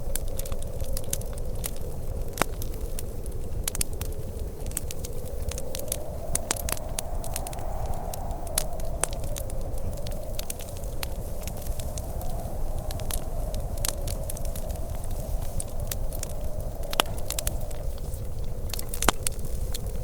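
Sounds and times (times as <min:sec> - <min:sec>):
whistling wind: 0:00.0 - 0:20.0
wood fire crackling: 0:00.0 - 0:20.0.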